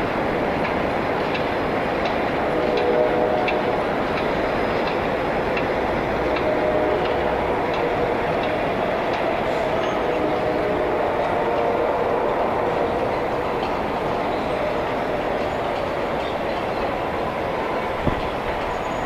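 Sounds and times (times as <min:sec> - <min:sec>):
subway train rumbling: 0:00.0 - 0:19.0
wheels clicking over rail joints: 0:00.0 - 0:19.0.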